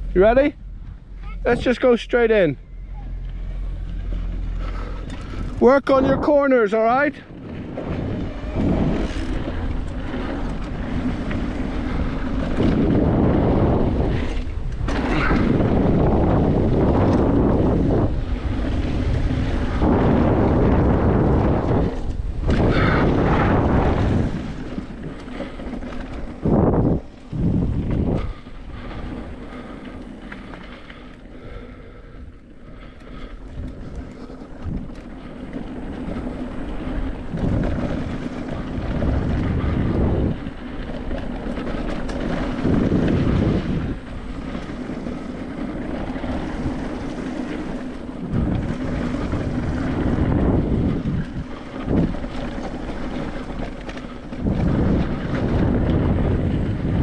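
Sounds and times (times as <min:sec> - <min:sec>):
tyres rumbling on dirt: 0:00.0 - 0:57.0
wind buffeting microphone: 0:00.0 - 0:57.0.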